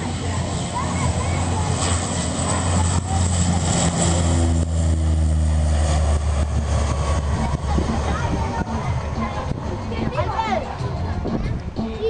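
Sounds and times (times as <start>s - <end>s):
high steady engine tones: 0.0s - 11.9s
turboprop engines droning: 0.0s - 12.0s.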